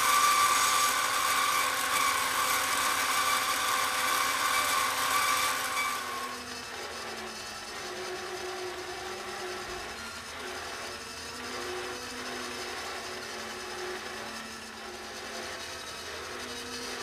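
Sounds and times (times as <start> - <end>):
bandsaw cutting steel pipe: 0.0 - 17.0.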